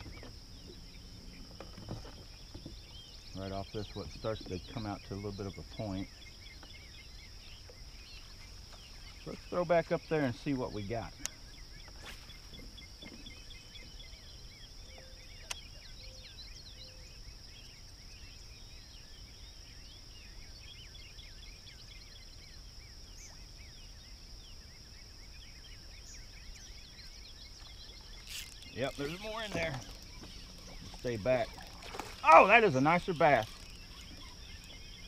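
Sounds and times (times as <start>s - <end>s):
bird chirps: 0.0s - 35.0s
high insect drone: 0.0s - 35.0s.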